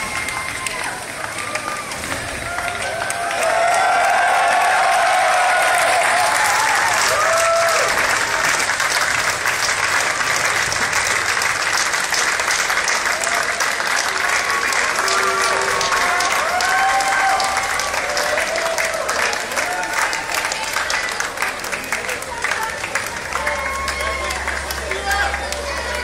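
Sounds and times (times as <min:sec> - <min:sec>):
crowd applauding: 0:00.0 - 0:26.0.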